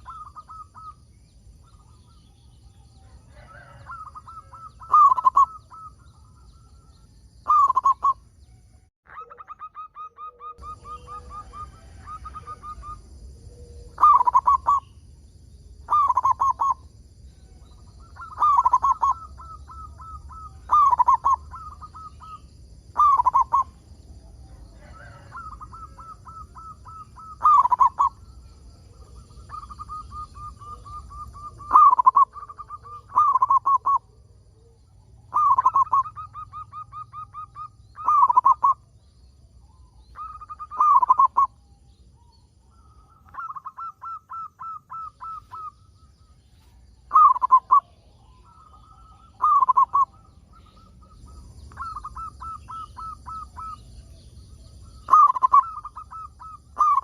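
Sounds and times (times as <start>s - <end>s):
dove cooing: 0.0s - 8.2s, 9.1s - 15.0s, 15.8s - 39.0s, 39.6s - 41.6s, 42.2s - 57.0s.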